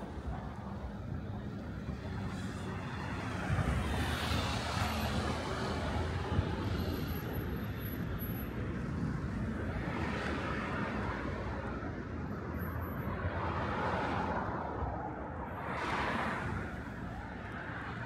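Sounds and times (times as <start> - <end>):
steady traffic hum: 0.0 - 18.0
vehicles passing: 0.0 - 18.0.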